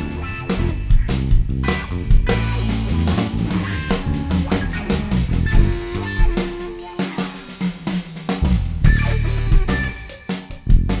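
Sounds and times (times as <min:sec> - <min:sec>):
heavy low bass notes: 0:00.0 - 0:06.7, 0:08.4 - 0:11.0
drum kit hits: 0:00.0 - 0:11.0
rock band music: 0:00.0 - 0:11.0.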